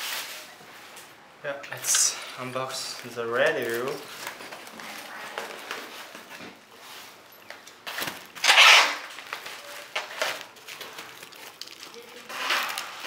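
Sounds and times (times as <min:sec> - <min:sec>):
plastic film rustling: 0:01.9 - 0:13.0.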